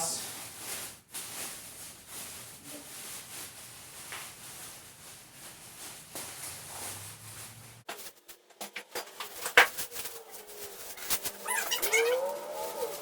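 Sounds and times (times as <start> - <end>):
packaging rustling and scraping: 0.3 - 13.0.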